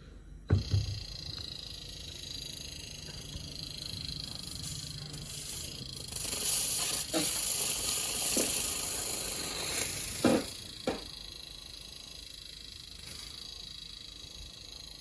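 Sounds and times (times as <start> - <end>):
pressurized gas hissing: 0.5 - 15.0.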